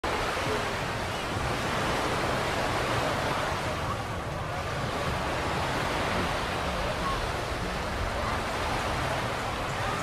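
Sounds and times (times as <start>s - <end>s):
waves breaking on beach: 0.0s - 10.0s.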